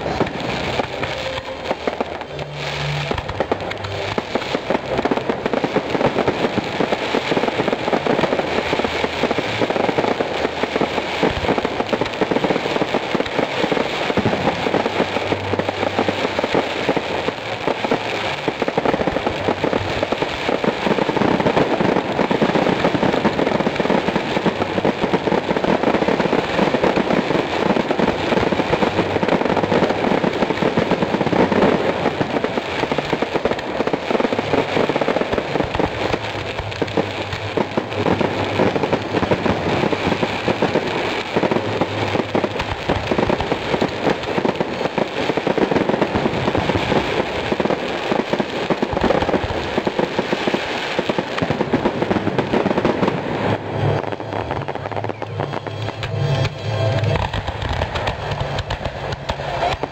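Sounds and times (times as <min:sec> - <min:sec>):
fireworks barrage: 0:00.0 - 0:59.9.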